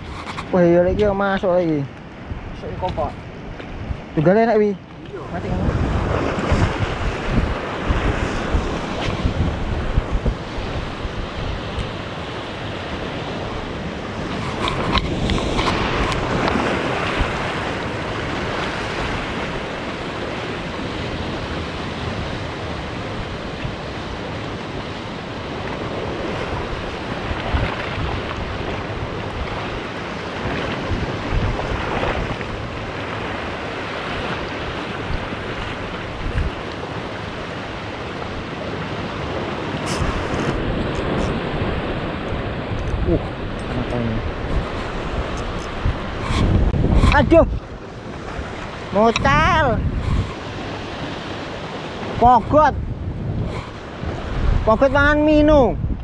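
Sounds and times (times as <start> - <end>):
sea waves breaking on rocks: 0.0 - 56.0
wind buffeting microphone: 0.0 - 56.0.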